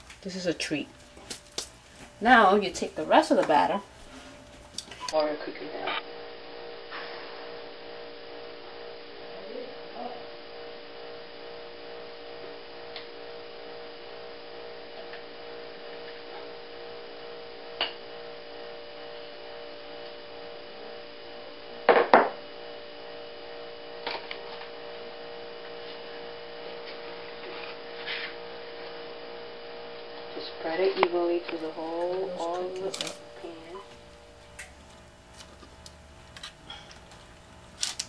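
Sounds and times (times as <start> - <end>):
electrical hum: 0.0 - 38.0.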